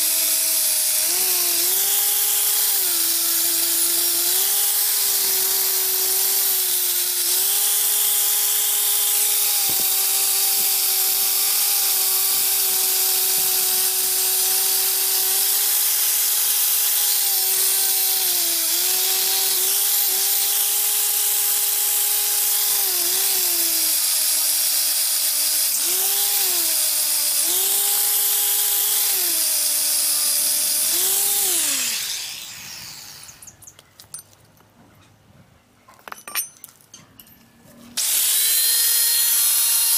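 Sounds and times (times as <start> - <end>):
power tool motor with abrasive hiss: 0.0 - 33.6, 38.0 - 39.9.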